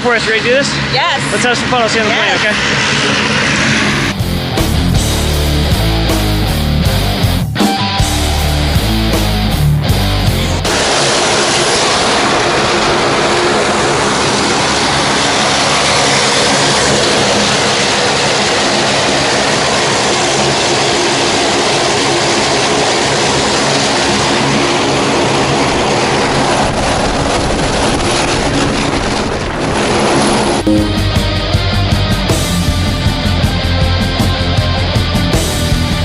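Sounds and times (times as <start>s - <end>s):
propeller aircraft engine droning: 0.0s - 7.4s, 8.0s - 36.0s.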